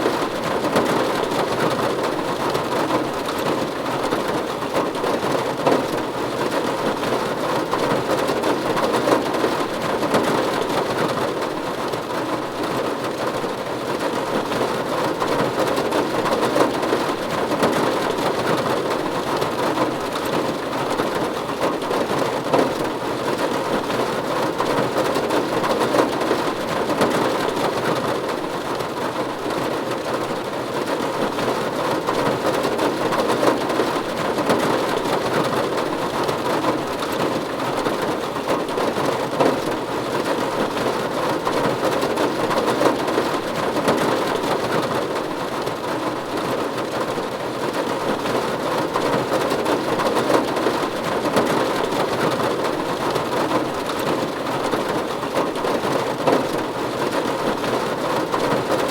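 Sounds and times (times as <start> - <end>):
rain on a roof: 0.0 - 58.9.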